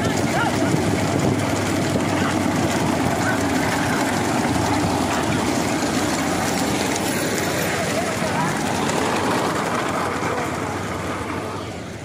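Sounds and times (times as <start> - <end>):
rushing vehicle noise: 0.0 - 12.0.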